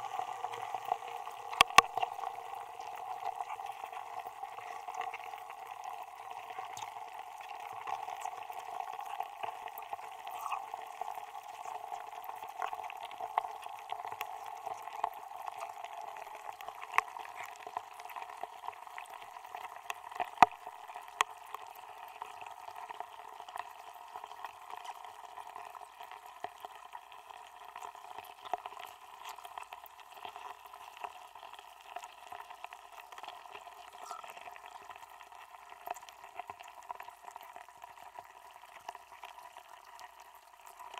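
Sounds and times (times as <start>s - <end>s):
melting ice fizzing and popping: 0.0s - 40.9s.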